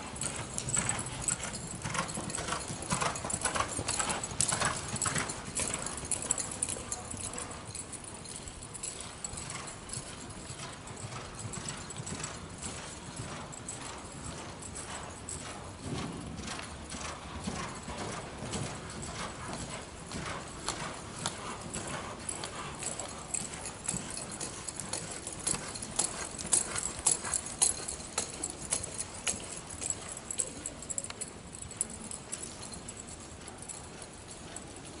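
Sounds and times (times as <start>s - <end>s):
hoofbeats on soft dirt: 0.0s - 35.0s.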